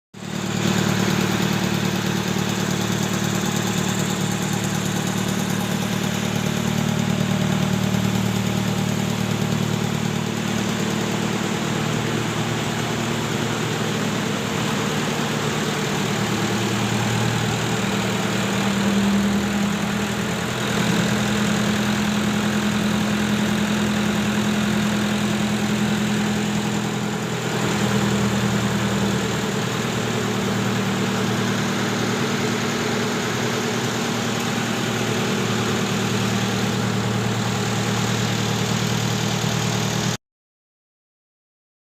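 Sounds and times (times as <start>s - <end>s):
generator engine idling: 0.2s - 40.2s.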